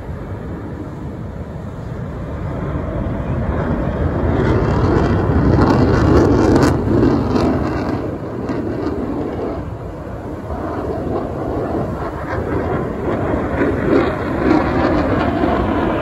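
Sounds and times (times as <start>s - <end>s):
aircraft flying past: 0.0s - 16.0s.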